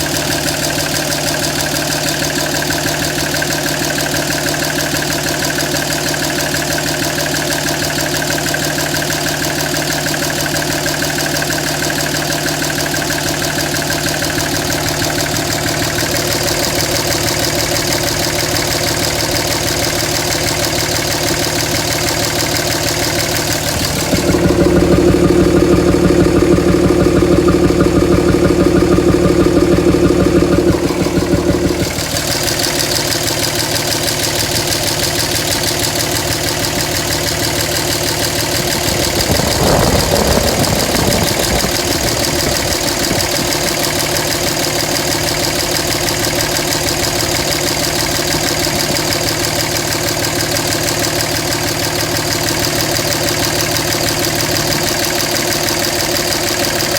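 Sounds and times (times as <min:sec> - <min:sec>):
diesel engine rough idle: 0:00.0 - 0:56.9.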